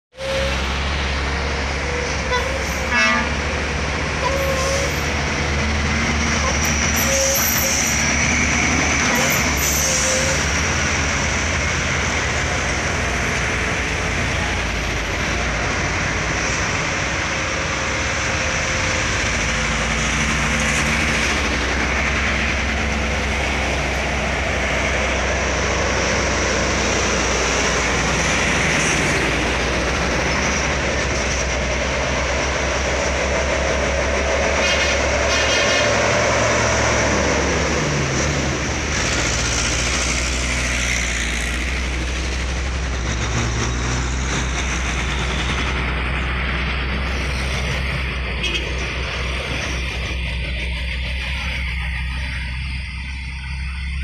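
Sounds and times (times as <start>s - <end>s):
diesel truck engines rumbling: 0.1s - 54.0s.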